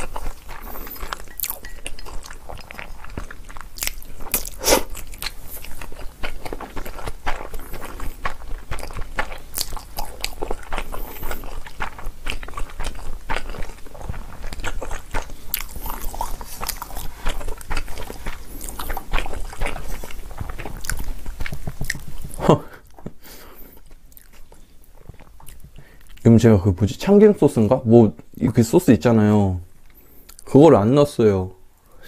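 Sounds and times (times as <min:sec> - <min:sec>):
person chewing food: 0:00.0 - 0:26.3, 0:29.8 - 0:30.5.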